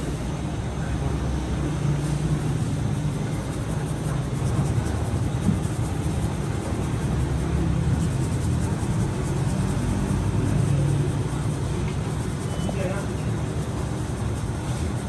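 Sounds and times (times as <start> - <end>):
machinery rumbling and humming: 0.0 - 15.0.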